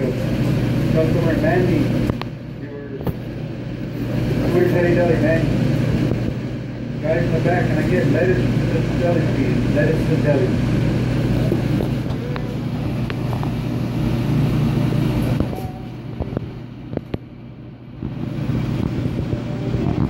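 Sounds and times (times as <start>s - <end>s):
restaurant background hum: 0.0s - 20.0s.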